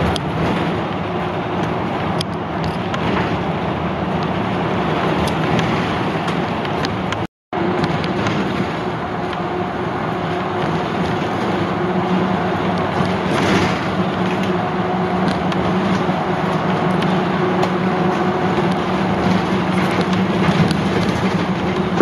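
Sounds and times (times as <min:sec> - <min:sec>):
bus engine hum: 0:00.0 - 0:22.0
road and tyre noise: 0:00.0 - 0:22.0.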